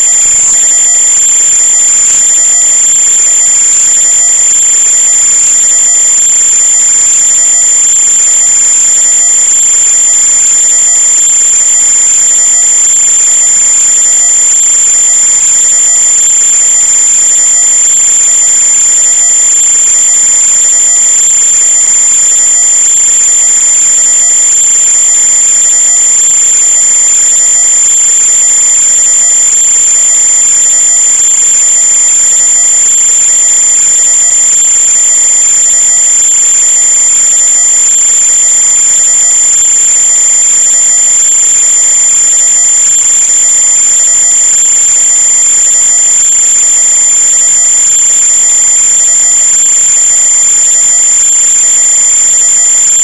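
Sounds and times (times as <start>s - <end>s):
high-pitched whine: 0.0s - 53.0s.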